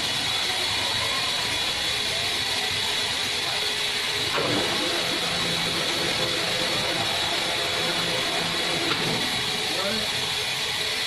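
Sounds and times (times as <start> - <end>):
heavy machinery engine drone: 0.0 - 11.0.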